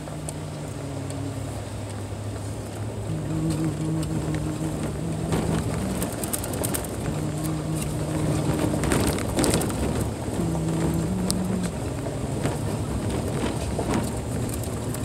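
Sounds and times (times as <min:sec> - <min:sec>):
car engine hum: 0:00.0 - 0:15.0
tyres on dirt road: 0:00.0 - 0:15.0
wheels crackling on gravel: 0:00.0 - 0:15.0.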